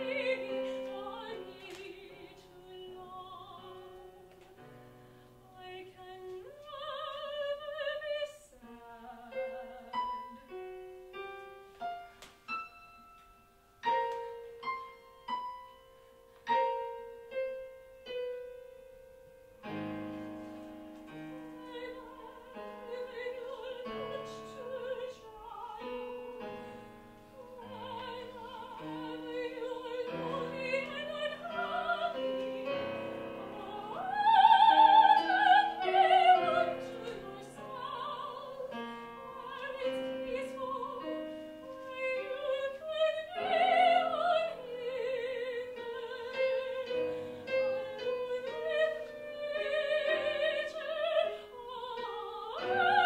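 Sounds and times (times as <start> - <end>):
soprano singing opera: 0.0 - 10.8, 20.5 - 53.0
piano chords: 0.0 - 53.0.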